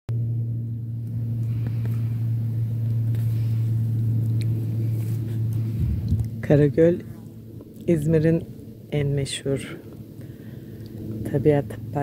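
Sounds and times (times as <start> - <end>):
motor humming: 0.1 - 12.0.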